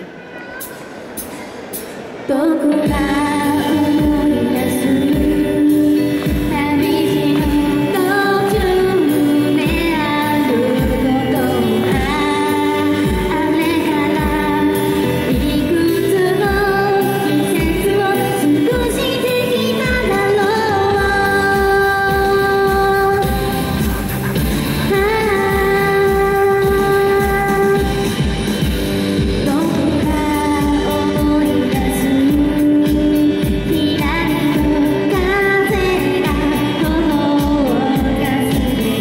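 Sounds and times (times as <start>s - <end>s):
woman singing pop ballad: 2.3s - 24.1s, 24.8s - 28.3s, 29.2s - 39.0s
amplified backing music with beat: 2.8s - 39.0s.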